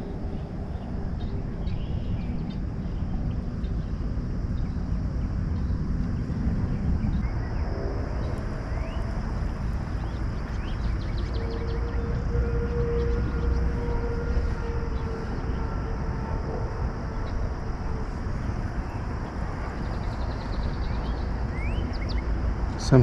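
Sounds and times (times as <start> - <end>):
high insect drone: 0.0 - 23.0
steady hum: 0.0 - 23.0.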